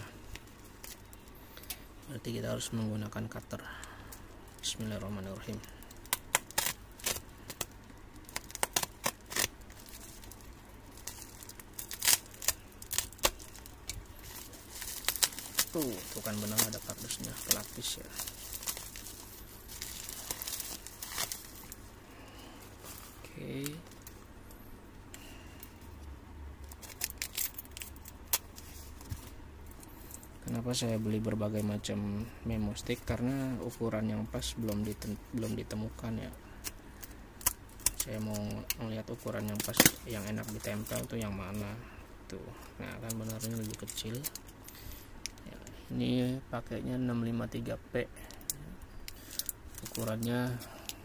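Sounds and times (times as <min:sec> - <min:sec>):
low steady hum: 0:00.0 - 0:51.0
plastic crinkling: 0:00.1 - 0:24.3, 0:26.6 - 0:31.9, 0:32.7 - 0:41.8, 0:42.8 - 0:45.8, 0:47.5 - 0:51.0.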